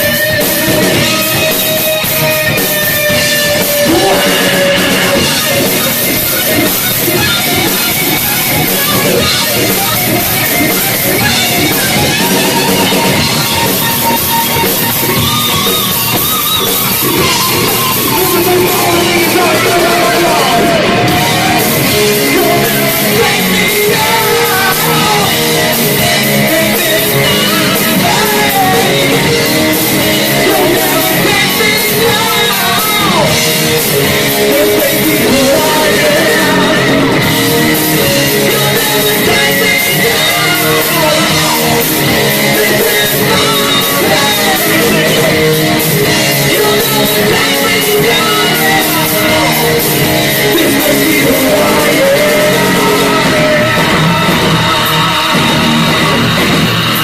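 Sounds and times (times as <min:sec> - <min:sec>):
live hard rock band: 0:00.0 - 0:57.0
person singing: 0:00.0 - 0:57.0.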